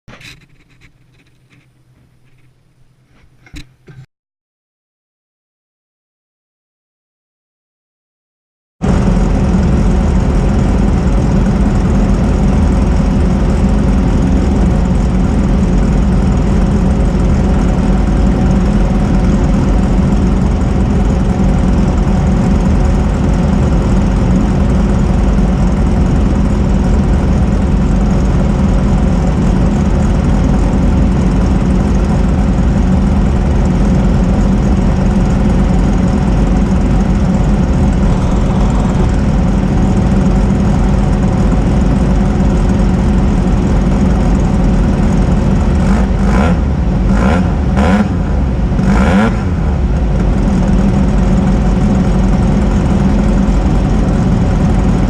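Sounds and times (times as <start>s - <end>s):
race car engine running: 8.8s - 55.0s.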